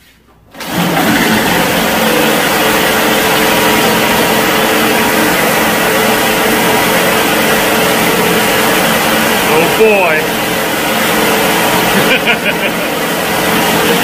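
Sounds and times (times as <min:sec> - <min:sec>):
tank engine running: 0:00.7 - 0:14.0.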